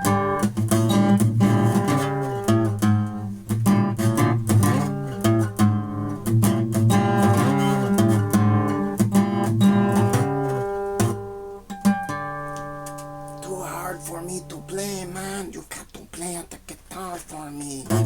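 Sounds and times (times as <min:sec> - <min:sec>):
acoustic guitar strummed: 0:00.0 - 0:15.6.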